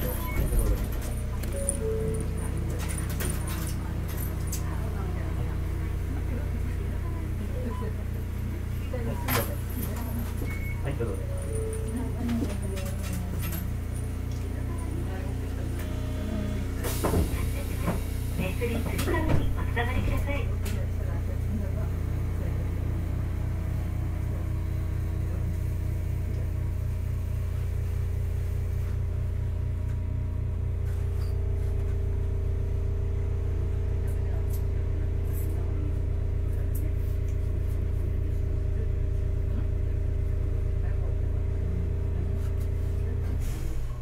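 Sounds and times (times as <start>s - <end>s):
tram electrical equipment humming: 0.0s - 44.0s.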